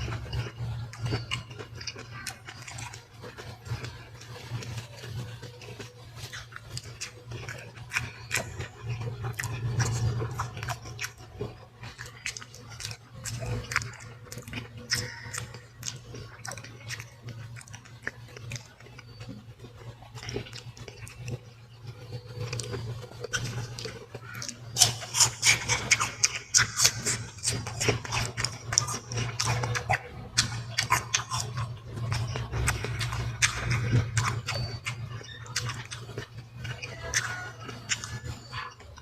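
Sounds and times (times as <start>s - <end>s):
chewing and biting fruit: 0.0s - 39.0s
low steady hum: 0.0s - 39.0s.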